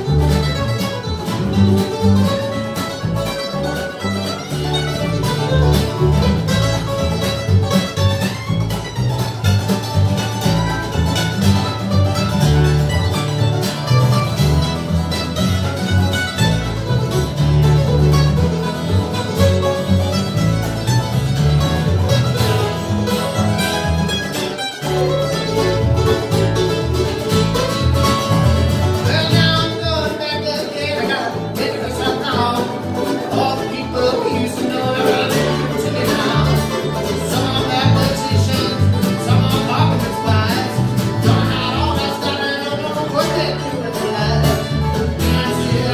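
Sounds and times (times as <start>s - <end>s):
bluegrass band playing: 0.0s - 45.9s
upright bass plucking: 0.0s - 45.9s.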